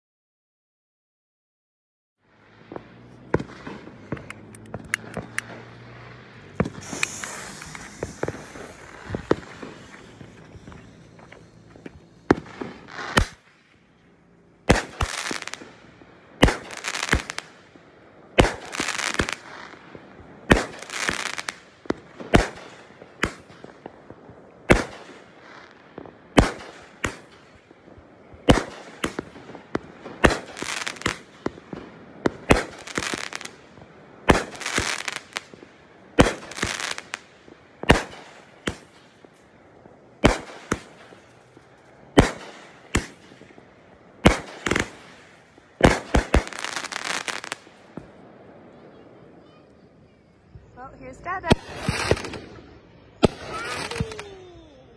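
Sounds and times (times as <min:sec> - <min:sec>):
crackling firework shells: 0:02.4 - 0:54.9
fireworks cake firing reports: 0:02.4 - 0:54.9.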